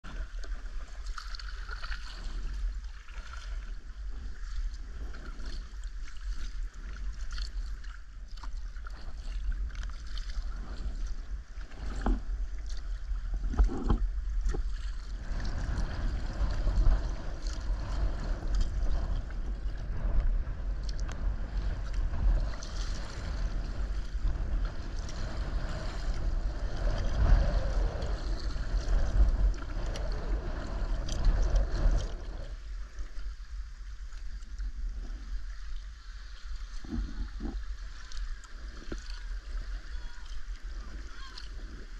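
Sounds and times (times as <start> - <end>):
paddle strokes: 0.0 - 41.9
steady low rumble: 0.0 - 41.9
water sloshing against hull: 0.0 - 41.9.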